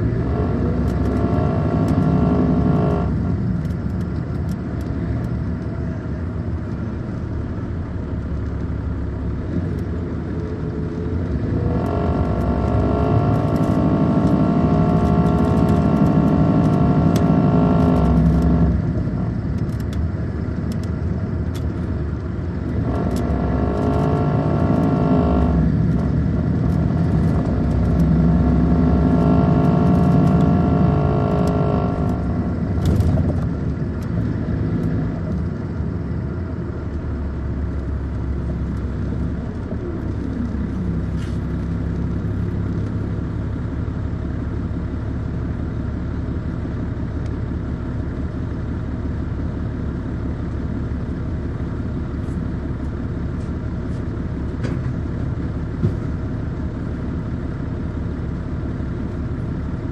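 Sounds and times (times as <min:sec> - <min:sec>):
diesel bus engine under load: 0:00.0 - 0:59.9.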